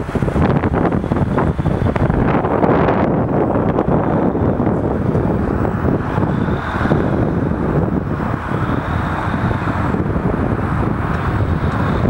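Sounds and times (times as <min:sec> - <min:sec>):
distant crane diesel engine rumbling: 0:00.0 - 0:12.0
wind on microphone: 0:00.0 - 0:12.0.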